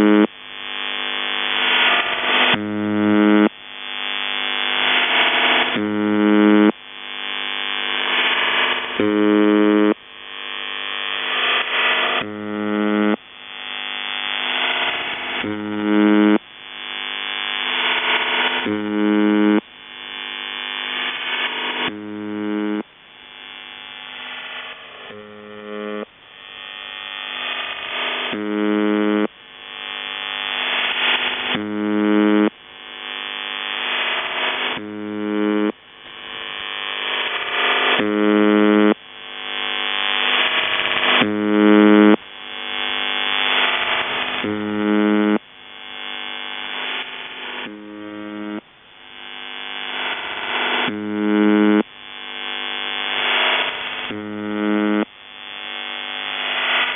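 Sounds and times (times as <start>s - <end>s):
shortwave radio buzz: 0.0s - 56.9s.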